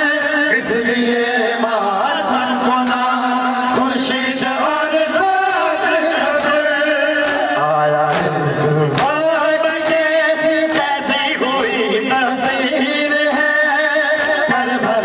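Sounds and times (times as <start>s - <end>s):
man chanting into microphone: 0.0s - 15.0s.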